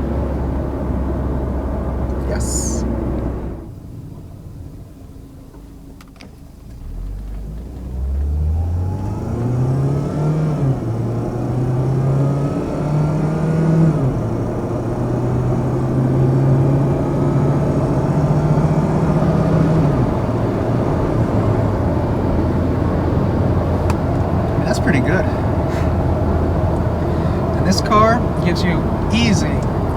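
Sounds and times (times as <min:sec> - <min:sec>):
car engine accelerating hard: 0:00.0 - 0:29.9.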